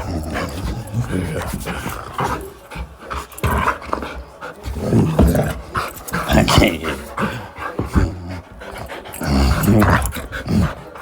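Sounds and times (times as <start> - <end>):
dog growling and panting: 0.0 - 11.0.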